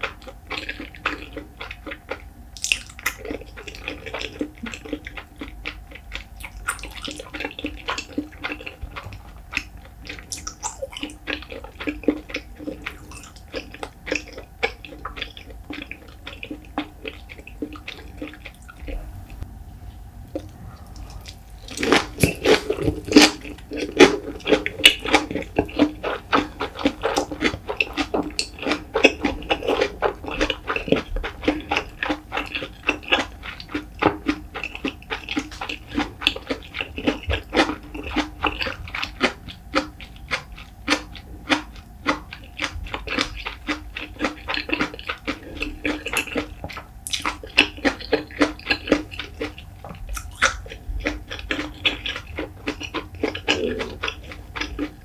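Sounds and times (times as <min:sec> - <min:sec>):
chewing with sticky mouth clicks: 0:00.0 - 0:19.4, 0:20.3 - 0:55.0.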